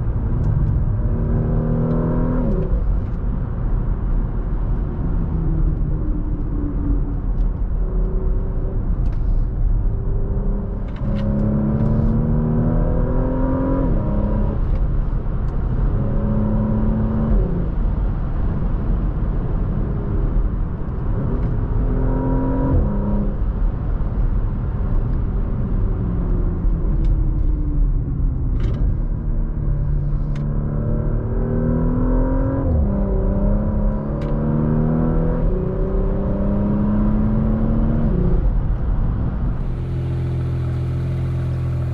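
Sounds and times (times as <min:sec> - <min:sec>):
car engine accelerating: 0:00.0 - 0:23.9, 0:28.5 - 0:41.9
road rumble: 0:00.0 - 0:41.9.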